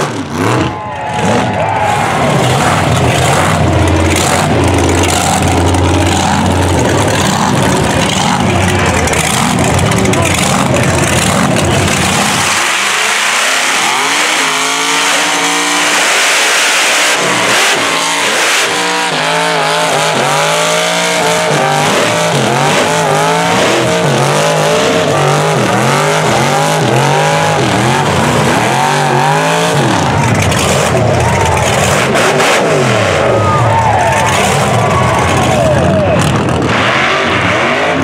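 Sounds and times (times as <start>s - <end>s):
truck engines revving hard: 0.0s - 38.0s.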